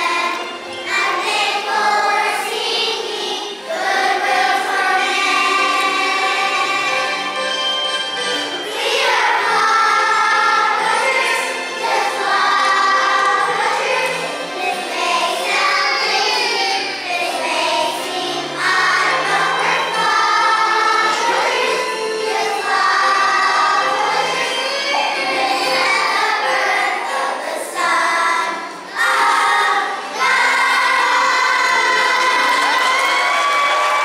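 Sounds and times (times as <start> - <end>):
children's choir singing: 0.0 - 34.0.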